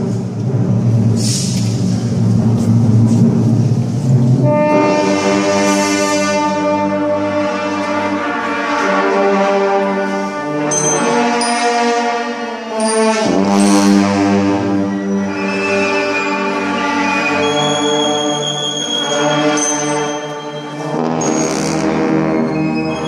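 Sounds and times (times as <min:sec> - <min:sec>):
brass band playing funeral march: 0:04.2 - 0:23.0.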